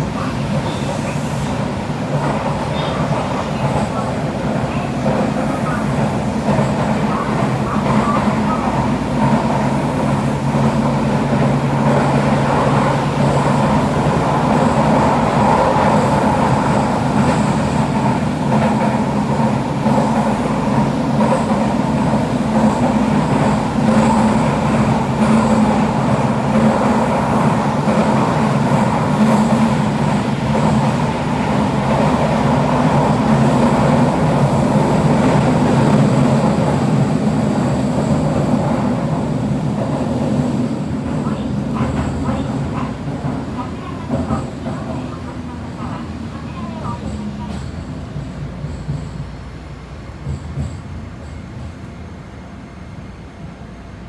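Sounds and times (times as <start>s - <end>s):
subway car wheels rumbling on rail: 0.0s - 54.0s.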